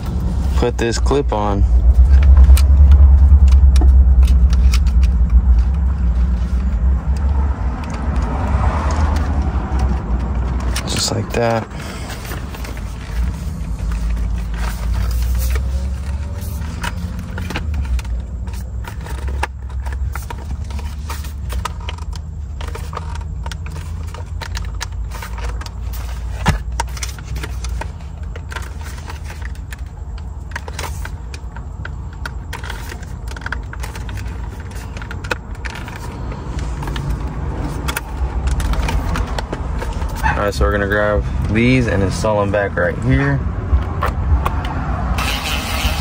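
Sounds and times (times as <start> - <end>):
steady low rumble: 0.0 - 45.2.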